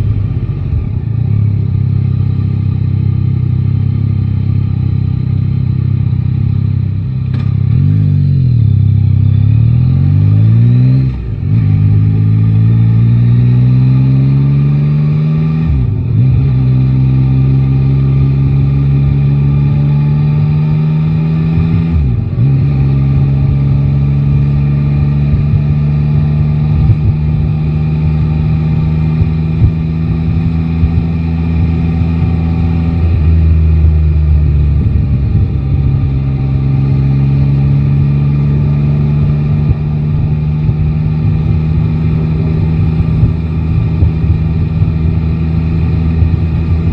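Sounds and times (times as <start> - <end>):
motorcycle engine shifting gears: 0.0 - 46.9.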